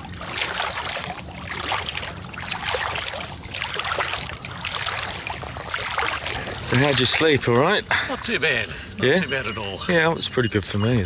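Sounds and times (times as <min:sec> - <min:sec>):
footsteps wading through water: 0:00.0 - 0:09.9
water splashing: 0:00.0 - 0:10.8.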